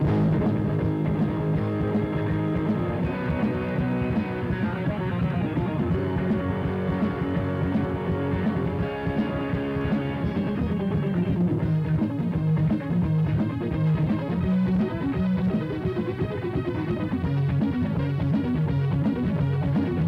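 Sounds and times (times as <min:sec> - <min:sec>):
heavy metal band playing: 0:00.0 - 0:20.0.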